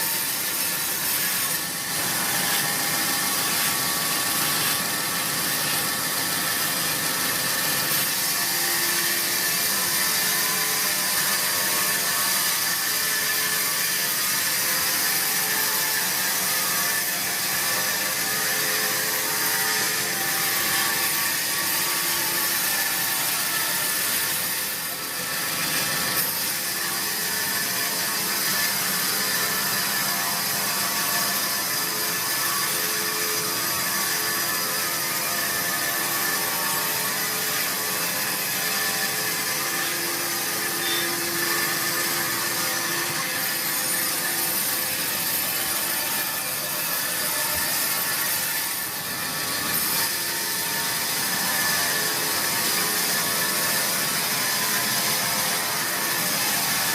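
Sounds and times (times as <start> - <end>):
sawmill saw cutting log: 0.0 - 56.9.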